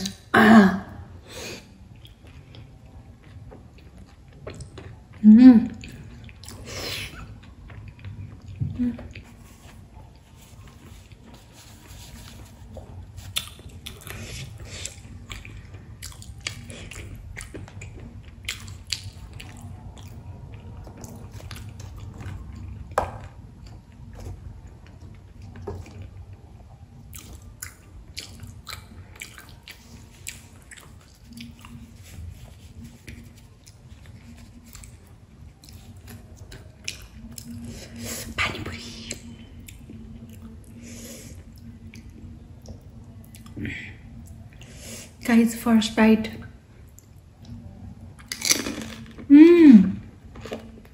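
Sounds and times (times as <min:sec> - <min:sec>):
person chewing with wet clicks: 0:01.8 - 0:44.8, 0:46.8 - 0:48.7.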